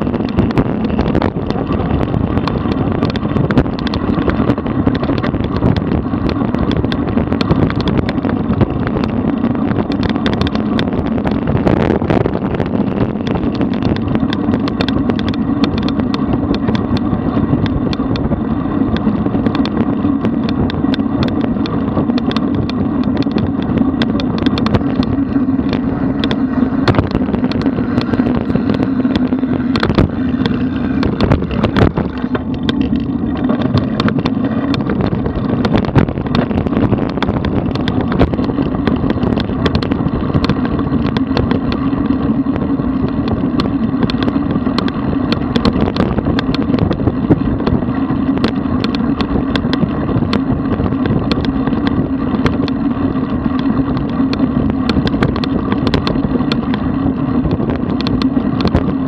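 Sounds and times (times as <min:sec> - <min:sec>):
small rattling clicks: 0:00.0 - 0:59.0
wind and road rumble: 0:00.0 - 0:59.0.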